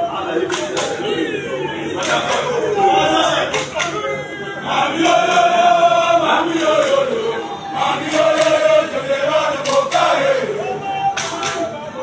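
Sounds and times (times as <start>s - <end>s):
soldiers chanting in unison: 0.0s - 12.0s.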